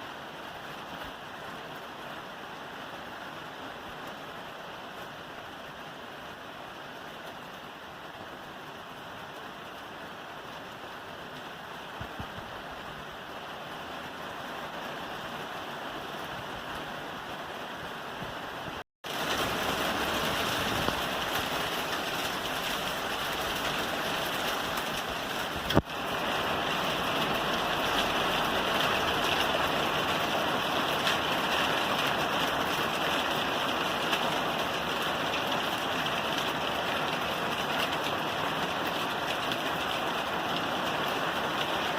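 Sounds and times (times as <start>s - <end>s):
rain on a roof: 0.0s - 41.9s.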